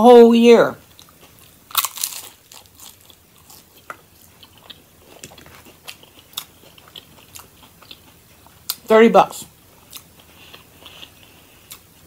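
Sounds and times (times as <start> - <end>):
person chewing crunchy food: 0.8 - 12.0.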